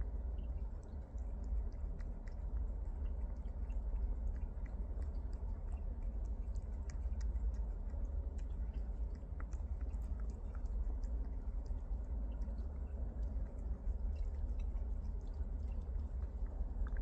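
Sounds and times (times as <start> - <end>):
cat chewing food: 0.0 - 17.0
steady low rumble: 0.0 - 17.0
small scattered clicks: 0.3 - 17.0.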